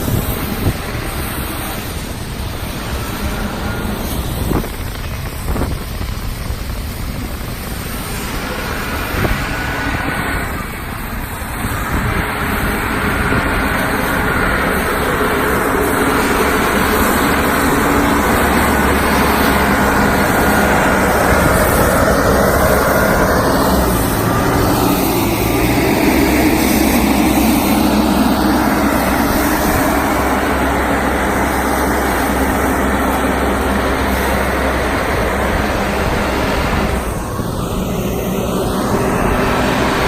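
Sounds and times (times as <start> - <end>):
diesel truck engine running: 0.0 - 40.0.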